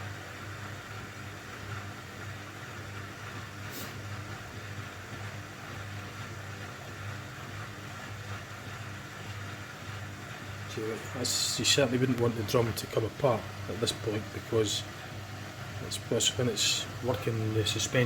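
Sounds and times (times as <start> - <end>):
washing machine drum humming: 0.0 - 18.0.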